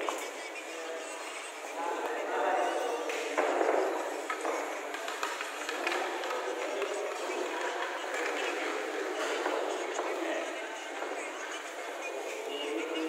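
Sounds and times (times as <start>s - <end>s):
indistinct background chatter: 0.0s - 13.0s.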